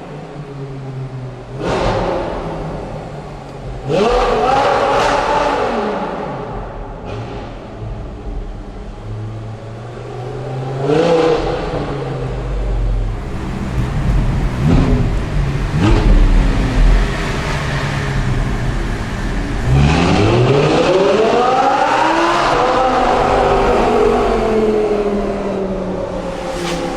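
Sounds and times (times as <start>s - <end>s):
car accelerating hard: 1.4s - 26.9s
sports car engine revving: 1.4s - 26.9s.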